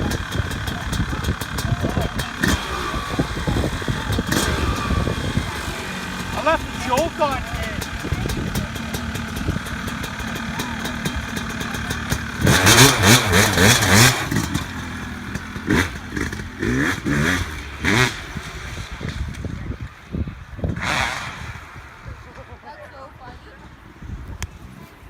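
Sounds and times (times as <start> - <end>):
two-stroke engine revving: 0.0 - 22.6.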